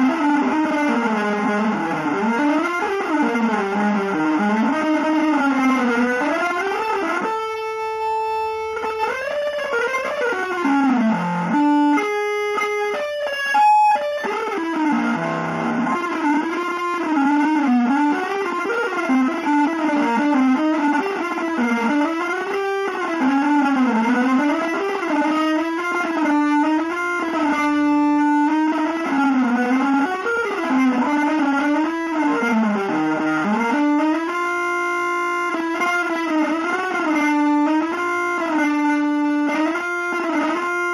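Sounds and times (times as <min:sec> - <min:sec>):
electric guitar melody: 0:00.0 - 0:40.9.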